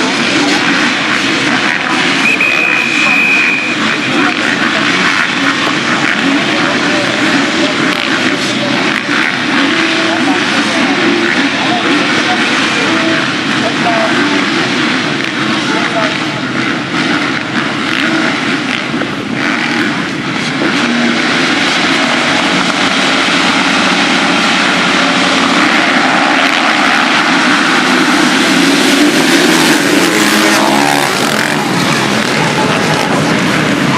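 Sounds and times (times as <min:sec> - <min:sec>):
motorcycle engines revving: 0:00.0 - 0:33.9.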